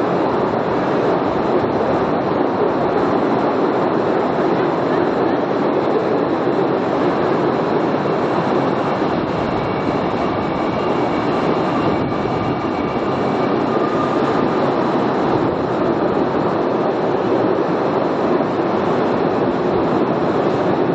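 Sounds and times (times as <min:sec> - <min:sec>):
train wheels rattling on rails: 0:00.0 - 0:20.9.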